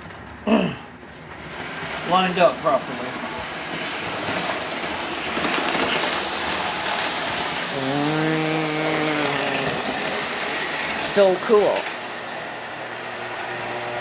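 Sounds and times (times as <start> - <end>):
model train whirring: 1.2 - 14.0.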